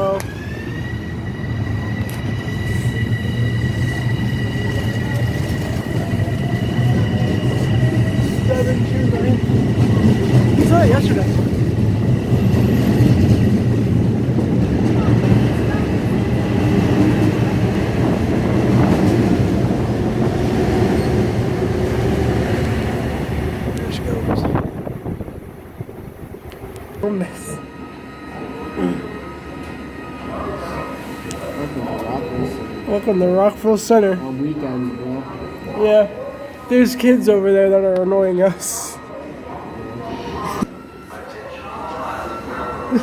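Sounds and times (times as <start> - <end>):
electric train rumble: 0.0 - 43.0
high-pitched train tone: 0.0 - 43.0.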